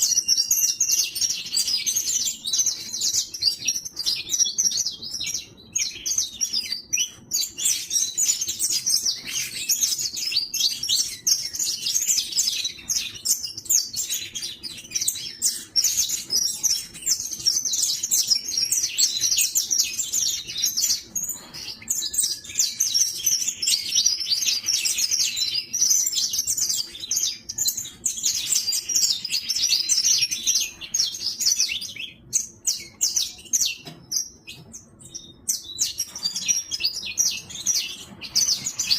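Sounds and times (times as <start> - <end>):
finch chirping and twittering: 0.0 - 38.9.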